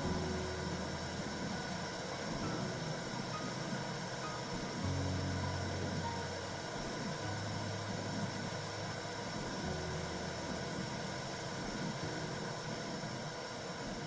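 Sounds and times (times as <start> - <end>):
low hum: 0.0 - 14.0
steady whooshing noise: 0.0 - 14.0.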